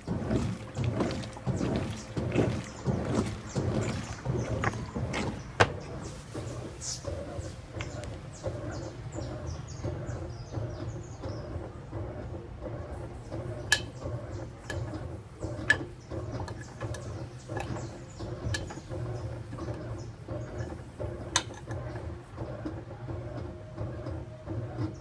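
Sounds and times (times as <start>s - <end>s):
washing machine clicks and knocks: 0.0s - 25.0s
washing machine motor hum: 0.0s - 25.0s.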